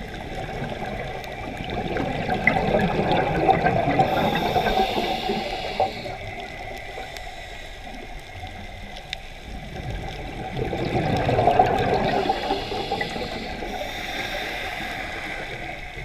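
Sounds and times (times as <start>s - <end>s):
underwater bubbles gurgling: 0.0s - 16.0s.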